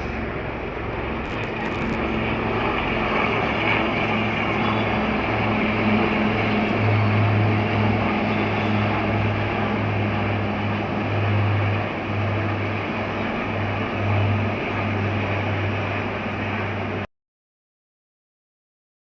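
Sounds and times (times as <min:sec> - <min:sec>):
military jet flying over: 0:00.1 - 0:17.0.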